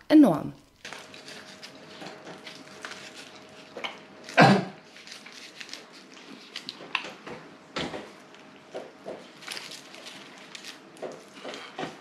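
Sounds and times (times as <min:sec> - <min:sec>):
close-up chewing: 0:00.7 - 0:07.3, 0:08.0 - 0:12.0.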